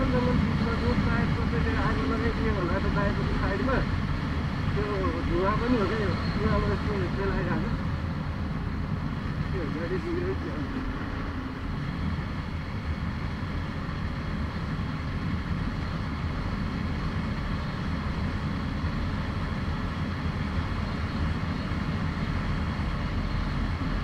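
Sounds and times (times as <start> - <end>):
motorcycle engine drone: 0.0 - 24.0.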